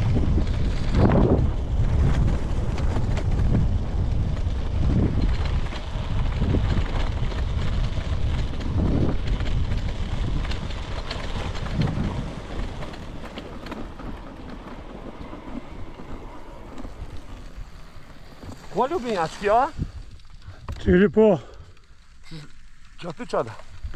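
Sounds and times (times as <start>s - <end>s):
wind buffeting microphone: 0.0s - 21.7s.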